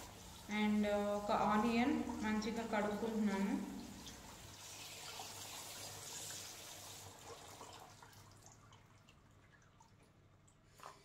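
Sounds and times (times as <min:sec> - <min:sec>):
tap water running into sink: 0:00.0 - 0:11.0
water dripping: 0:00.0 - 0:11.0.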